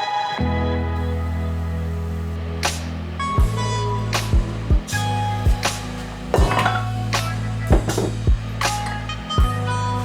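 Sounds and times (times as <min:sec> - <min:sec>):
low bass and synth music: 0:00.4 - 0:10.0.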